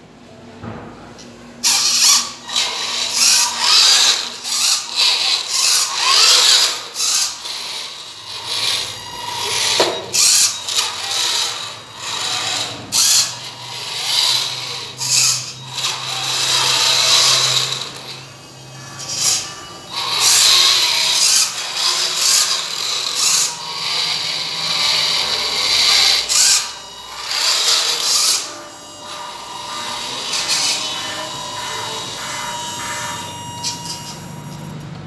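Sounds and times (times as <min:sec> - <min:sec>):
electric motor and gears whirring: 0:01.1 - 0:35.0.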